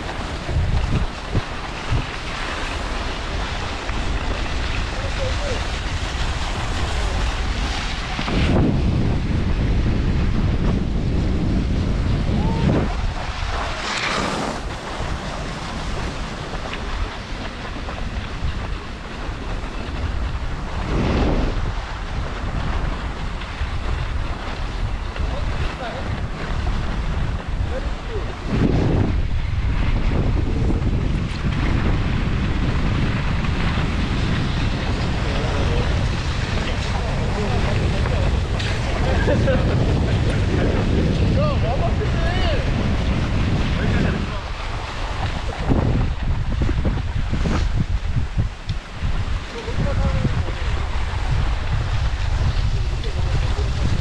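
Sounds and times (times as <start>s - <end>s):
skis hissing over snow: 0.0s - 8.9s, 12.1s - 28.9s, 32.8s - 45.8s, 47.2s - 48.1s, 48.8s - 54.0s
wind buffeting microphone: 0.0s - 54.0s.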